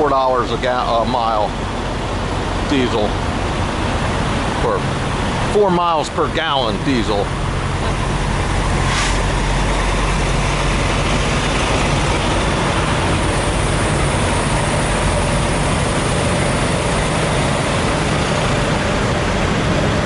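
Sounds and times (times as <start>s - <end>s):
constant rushing hiss: 0.0s - 20.0s
diesel truck engines idling: 0.0s - 20.0s.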